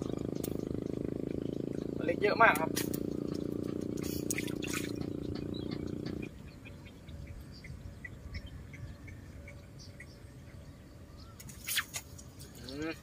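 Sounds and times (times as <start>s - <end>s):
droning hum: 0.0s - 11.5s.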